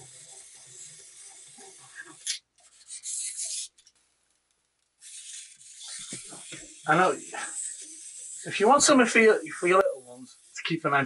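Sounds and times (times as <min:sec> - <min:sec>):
fingers rubbing plastic toy: 0:00.0 - 0:04.1, 0:05.0 - 0:11.0.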